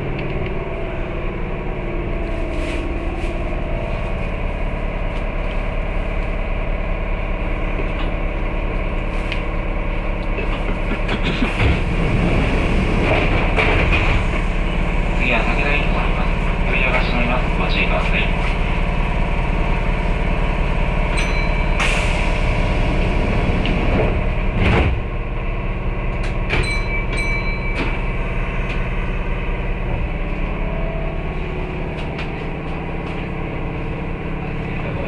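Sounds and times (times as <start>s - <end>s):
electric train humming: 0.0s - 35.0s.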